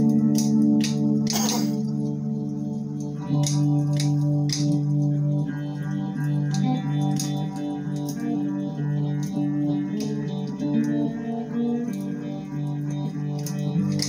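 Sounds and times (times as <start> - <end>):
slide guitar notes: 0.0 - 14.0.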